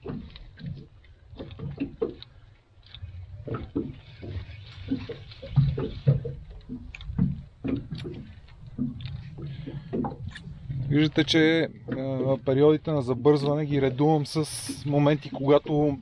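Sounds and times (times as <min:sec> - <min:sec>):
water slapping against boat hull: 0:00.0 - 0:16.0
wind rumble on microphone: 0:03.0 - 0:16.0.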